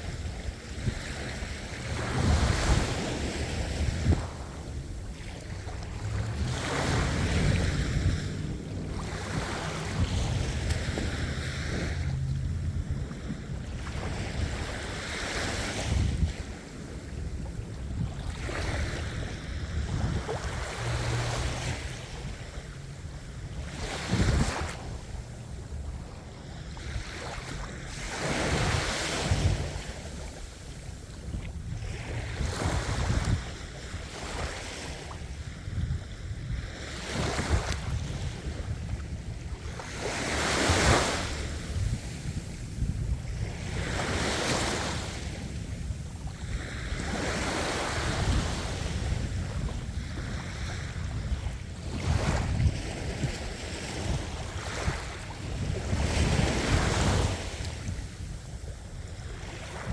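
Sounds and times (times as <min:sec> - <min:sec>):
sea waves breaking: 0:00.0 - 0:59.9
wind buffeting microphone: 0:00.0 - 0:59.9.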